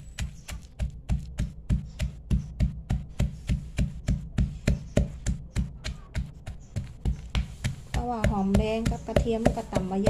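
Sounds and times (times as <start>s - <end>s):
pestle pounding in clay mortar: 0.0s - 10.0s.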